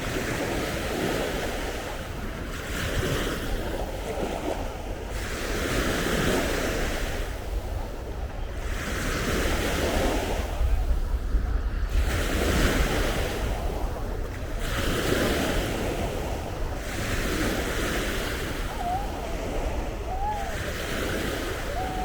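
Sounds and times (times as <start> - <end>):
surf breaking on shore: 0.0 - 22.0
wind rumbling on microphone: 0.0 - 22.0.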